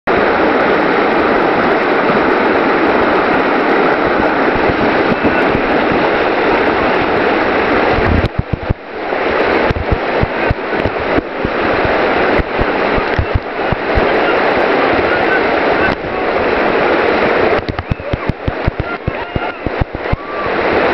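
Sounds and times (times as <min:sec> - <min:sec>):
whitewater rushing: 0:00.1 - 0:20.9
wind thumps on microphone: 0:03.0 - 0:20.9.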